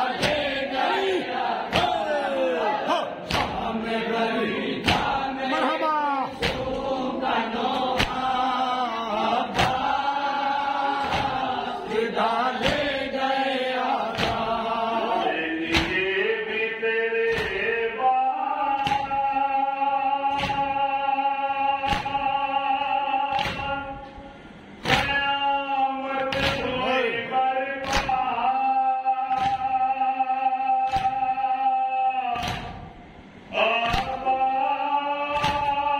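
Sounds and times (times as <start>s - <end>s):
men chanting a lament: 0.0s - 35.9s.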